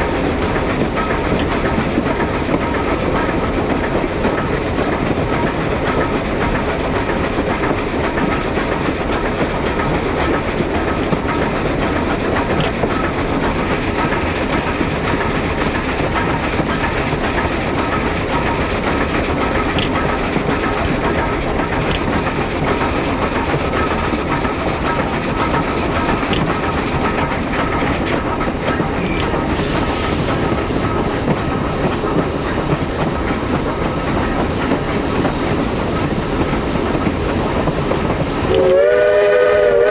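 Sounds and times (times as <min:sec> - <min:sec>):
train wheels rumbling and rattling: 0:00.0 - 0:39.9.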